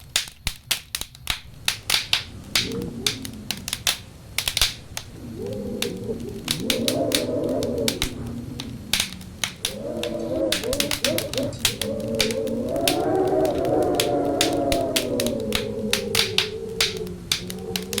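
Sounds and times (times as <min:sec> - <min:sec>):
wood fire crackling and popping: 0:00.0 - 0:18.0
wind howling: 0:01.2 - 0:18.0.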